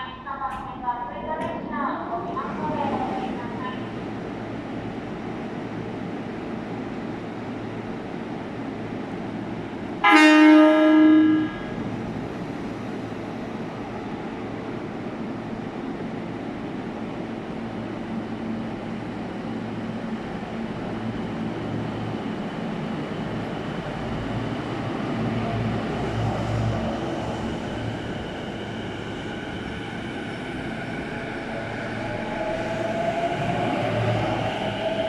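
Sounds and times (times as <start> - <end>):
electric train humming: 1.8 - 35.0.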